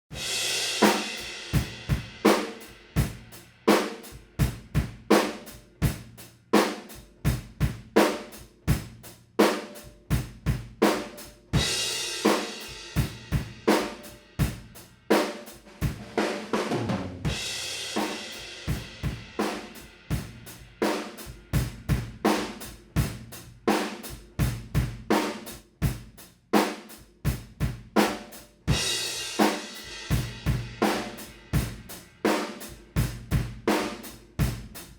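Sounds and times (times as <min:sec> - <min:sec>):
drum kit playing a groove: 0:00.1 - 0:34.9.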